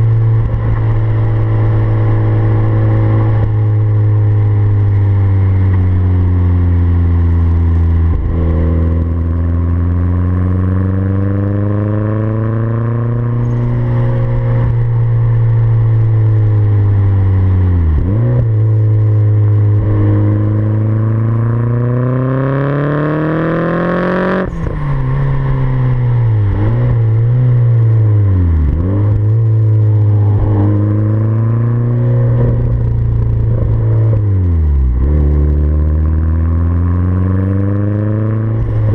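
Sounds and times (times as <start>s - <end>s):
turbocharged car engine revving: 0.0s - 38.9s.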